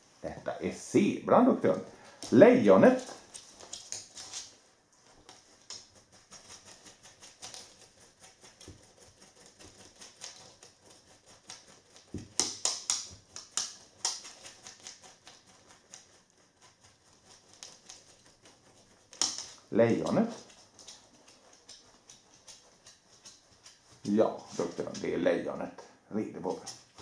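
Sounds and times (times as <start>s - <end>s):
dog claws clicking on wood floor: 1.7s - 25.3s.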